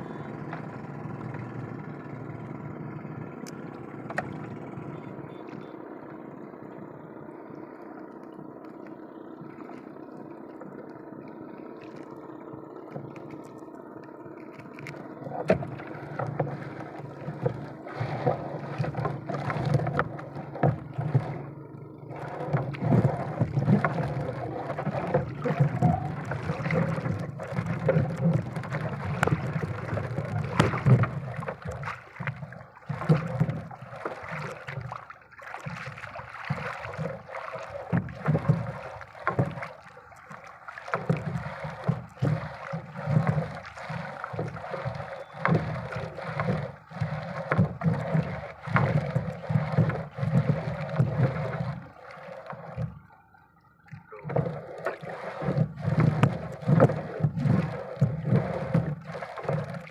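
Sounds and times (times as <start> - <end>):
water sloshing around boat: 0.0 - 59.9.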